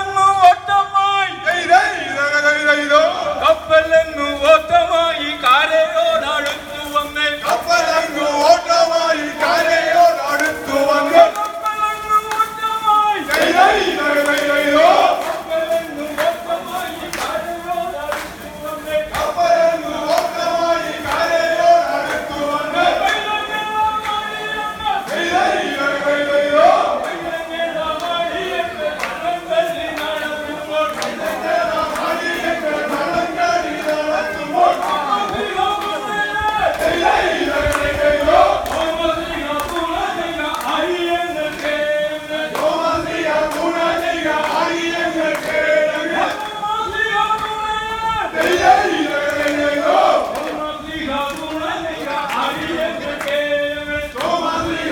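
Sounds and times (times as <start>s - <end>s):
men chanting in unison: 0.0s - 54.9s
men singing together: 0.0s - 54.9s.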